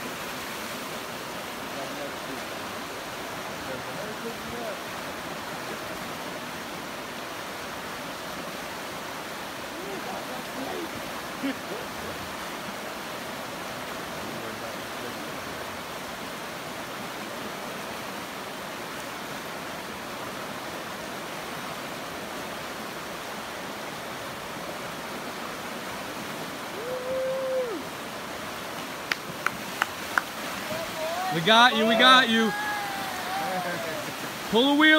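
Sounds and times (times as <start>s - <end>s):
river rapids rushing: 0.0s - 34.9s.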